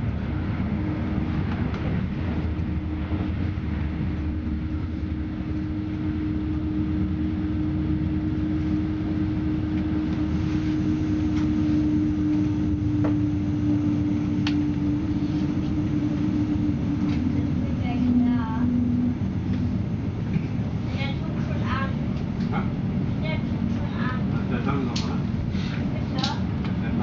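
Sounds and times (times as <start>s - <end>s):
train interior rumble: 0.0s - 27.0s.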